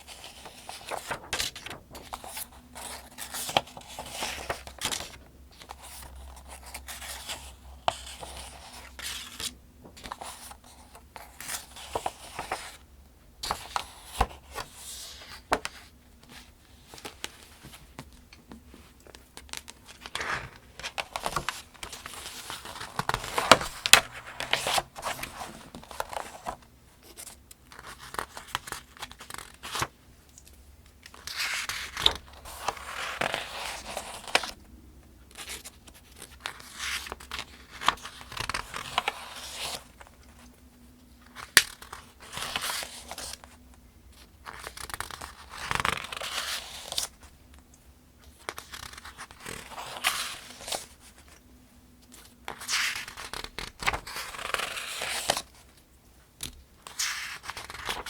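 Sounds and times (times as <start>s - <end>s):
paper pages turning: 0.0s - 12.8s, 13.4s - 29.9s, 31.0s - 34.6s, 35.3s - 40.5s, 41.3s - 43.5s, 44.4s - 47.2s, 48.2s - 51.4s, 52.1s - 55.7s, 56.4s - 58.0s.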